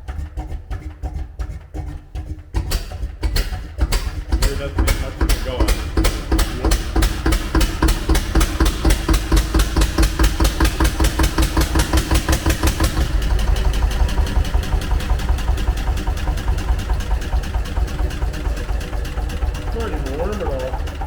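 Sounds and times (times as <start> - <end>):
stationary engine running: 0.0 - 21.0.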